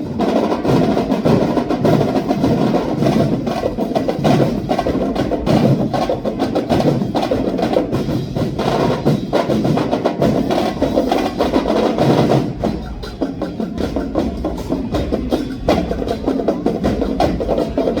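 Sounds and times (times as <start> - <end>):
drum ensemble playing fast beat: 0.0 - 18.0.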